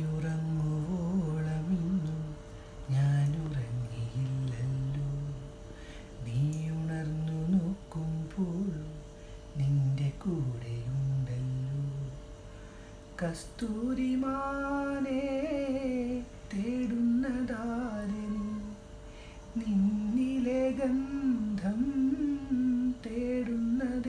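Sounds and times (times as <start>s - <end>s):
man singing wordless melody: 0.0s - 12.4s, 13.1s - 24.0s
faint steady hum: 0.0s - 24.0s.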